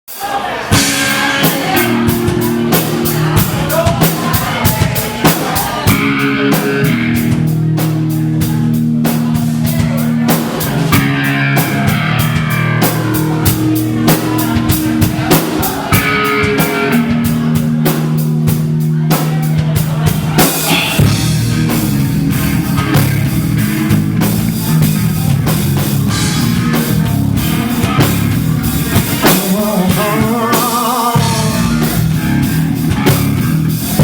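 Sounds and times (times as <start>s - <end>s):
drum kit beat: 0.1s - 34.0s
bass guitar low notes: 0.7s - 34.0s
electric guitar: 0.7s - 34.0s.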